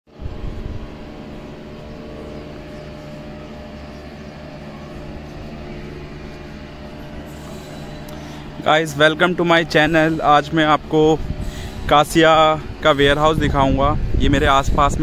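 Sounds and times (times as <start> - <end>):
steady low motor hum: 0.1 - 15.0.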